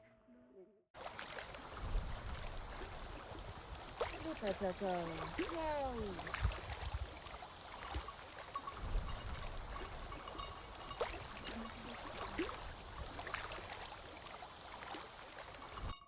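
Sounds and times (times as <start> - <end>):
flowing water rushing: 1.0 - 15.9.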